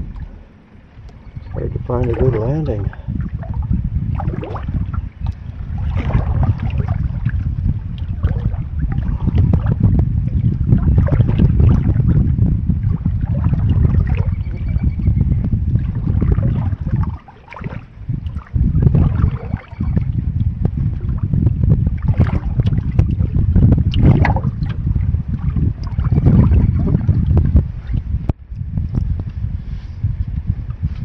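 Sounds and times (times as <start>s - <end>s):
paddle splashing water: 0.0s - 28.2s
wind buffeting microphone: 0.0s - 31.0s.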